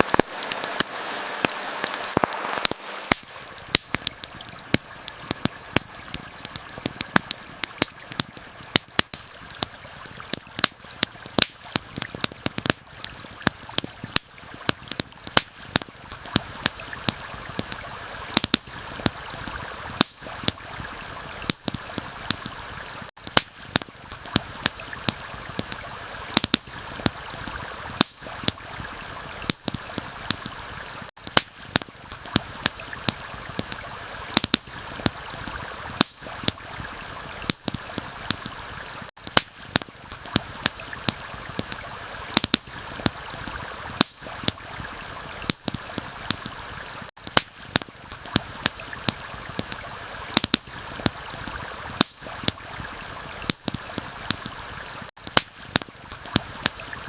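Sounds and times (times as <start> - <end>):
campfire crackling and popping: 0.0 - 57.0
flowing water: 0.0 - 57.0.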